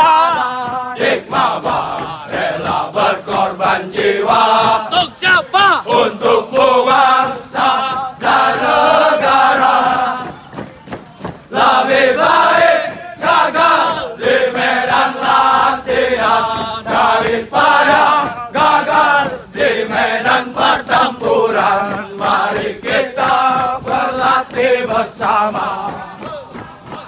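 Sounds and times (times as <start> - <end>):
group chanting in unison: 0.0 - 10.4, 11.5 - 27.0.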